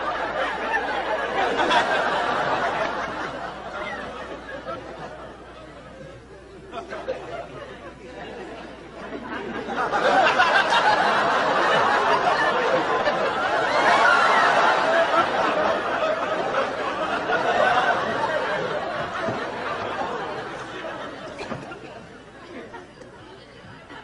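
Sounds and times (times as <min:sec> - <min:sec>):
audience chattering: 0:00.0 - 0:24.0
audience laughing: 0:00.0 - 0:24.0.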